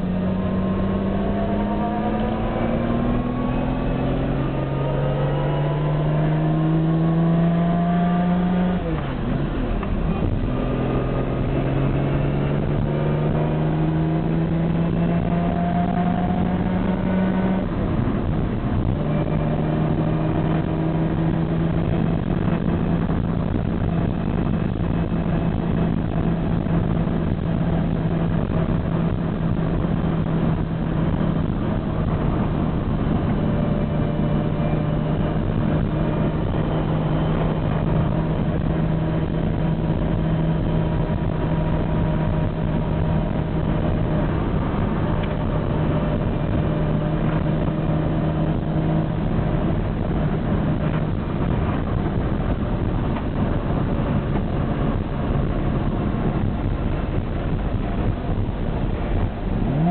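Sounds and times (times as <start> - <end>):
car engine running from inside cabin: 0.0 - 59.9.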